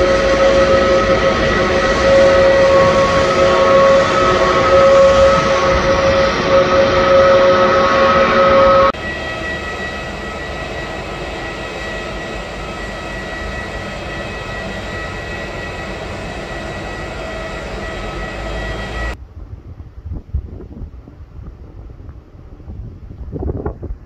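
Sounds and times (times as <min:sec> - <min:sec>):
faint wind on microphone: 0:00.0 - 0:24.0
jet airliner whine and roar: 0:00.0 - 0:24.0.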